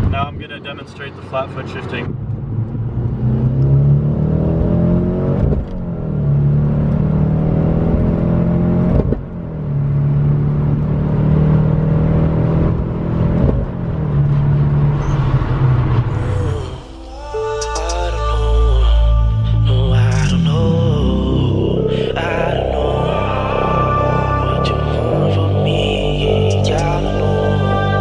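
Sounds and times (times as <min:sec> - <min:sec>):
car engine accelerating: 0:00.0 - 0:17.9, 0:18.5 - 0:28.0.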